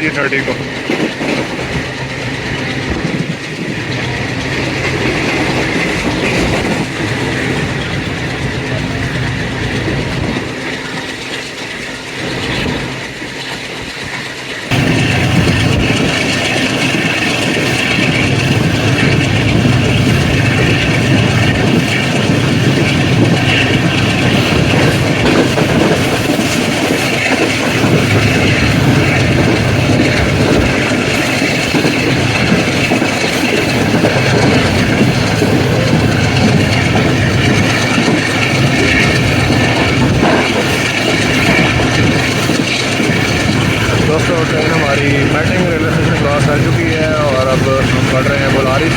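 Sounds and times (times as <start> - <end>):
diesel locomotive chugging: 0.0 - 48.9
train wheels rumbling on track: 0.0 - 48.9.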